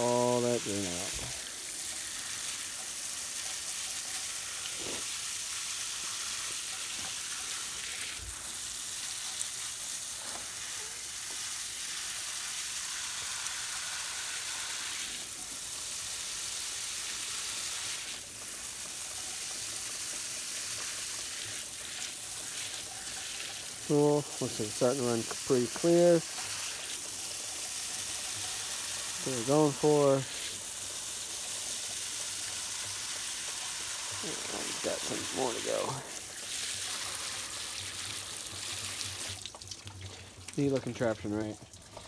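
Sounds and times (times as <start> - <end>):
hose spraying water on soil: 0.0 - 42.0.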